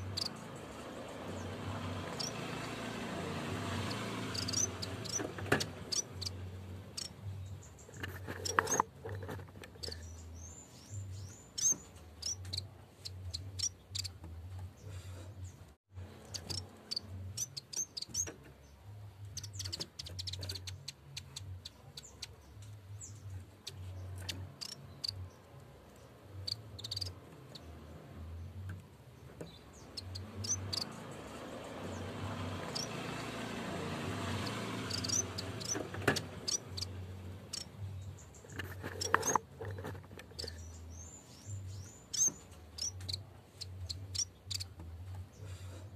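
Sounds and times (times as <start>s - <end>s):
bird chirping: 0.0s - 45.7s.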